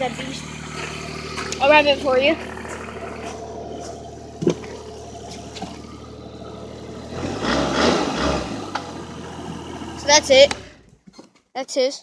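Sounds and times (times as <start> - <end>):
vehicle engine idling: 0.0 - 11.1.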